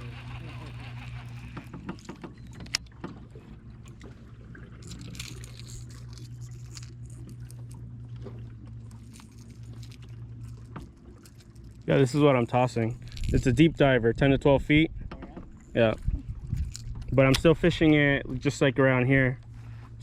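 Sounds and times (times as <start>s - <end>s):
fishing tackle rattling: 0.0s - 13.9s, 15.2s - 18.6s
boat engine hum: 0.0s - 20.0s.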